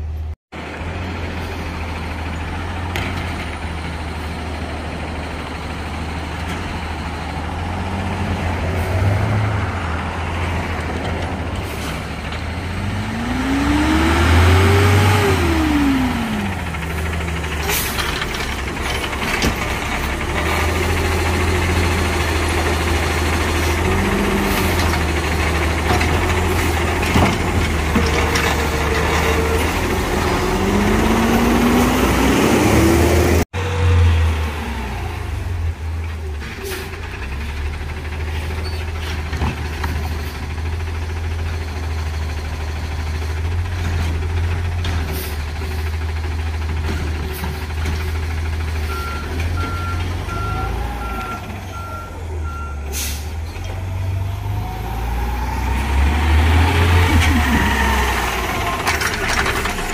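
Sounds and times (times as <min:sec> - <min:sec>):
garbage truck diesel rumble: 0:00.0 - 0:59.9.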